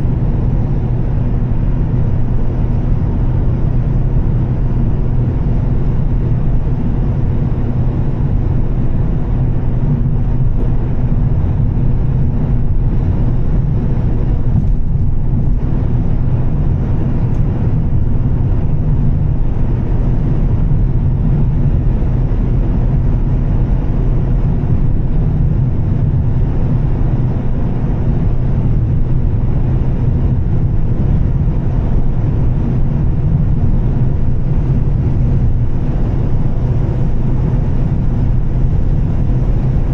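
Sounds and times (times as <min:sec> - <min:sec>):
car engine droning at cruise: 0:00.0 - 0:39.9
road noise: 0:00.0 - 0:39.9.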